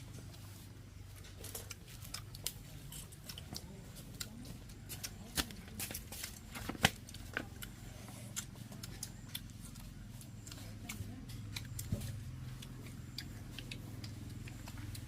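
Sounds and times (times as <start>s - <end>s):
low steady background hum: 0.0s - 15.0s.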